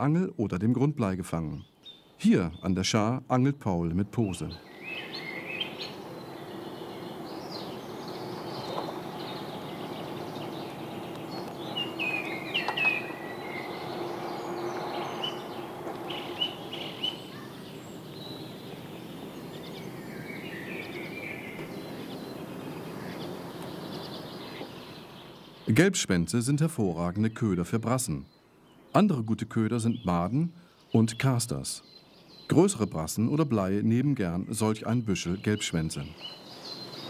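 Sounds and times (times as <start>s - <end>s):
background hiss: 0.0s - 37.0s
small birds chirping: 0.0s - 37.0s.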